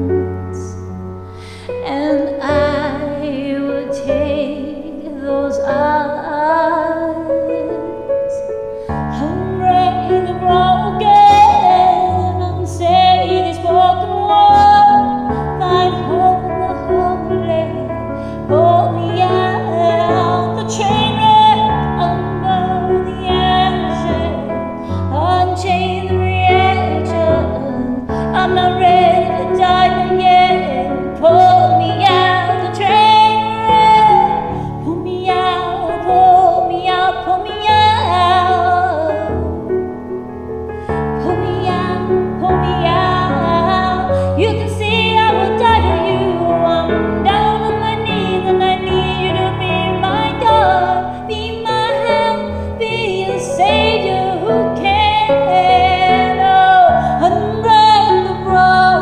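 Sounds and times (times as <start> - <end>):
woman singing pop ballad: 0.0 - 39.8, 41.2 - 59.0
karaoke backing track: 0.0 - 40.0, 40.6 - 59.0.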